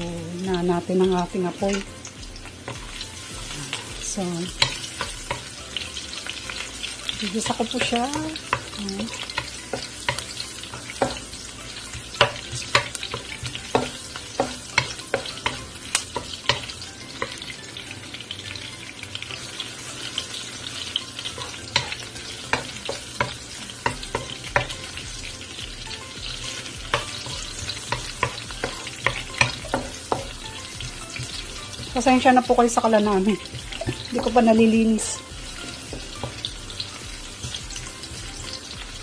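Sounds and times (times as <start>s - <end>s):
garlic sizzling in oil: 0.0s - 39.0s.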